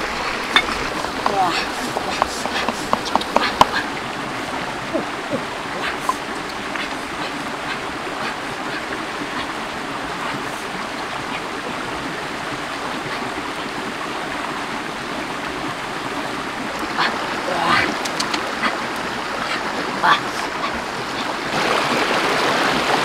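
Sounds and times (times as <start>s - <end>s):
stream running over stones: 0.0s - 23.0s.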